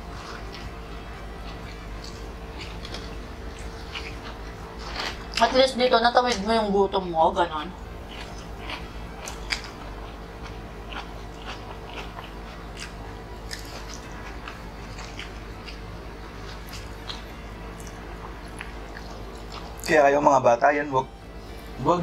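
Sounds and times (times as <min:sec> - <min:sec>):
people chewing and crunching: 0:00.0 - 0:20.6.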